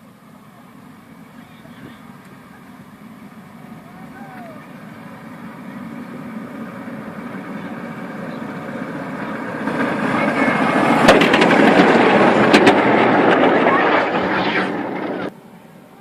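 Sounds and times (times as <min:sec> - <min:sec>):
diesel locomotive running: 0:00.0 - 0:16.0.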